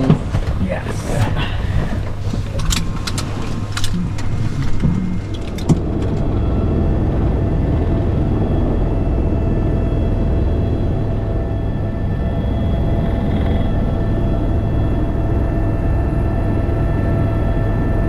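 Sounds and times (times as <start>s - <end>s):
helicopter cabin rumble: 0.0s - 18.0s
high whining tones: 0.0s - 18.0s.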